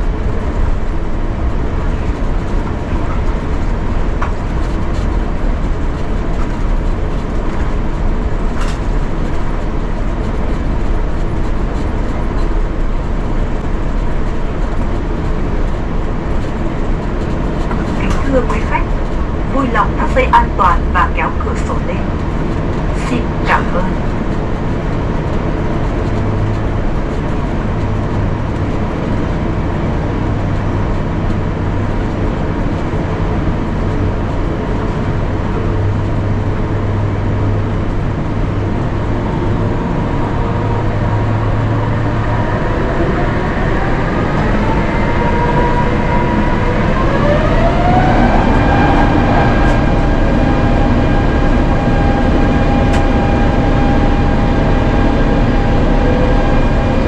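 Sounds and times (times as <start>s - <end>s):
cabin rumble: 0.0s - 57.0s
jet engines from inside cabin: 0.0s - 57.0s.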